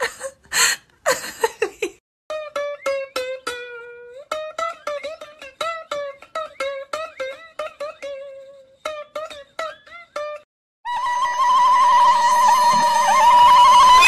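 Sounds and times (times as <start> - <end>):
plucked-string tune: 2.3 - 14.0.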